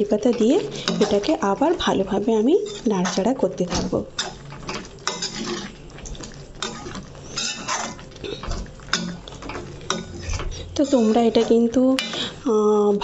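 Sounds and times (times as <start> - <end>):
metal spoon scraping a metal pan: 0.3 - 3.5, 4.2 - 5.8, 6.6 - 12.4.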